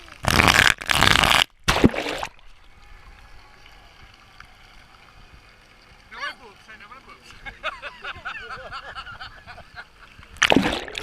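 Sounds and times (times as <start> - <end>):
water splashing in a pool: 0.0 - 11.0.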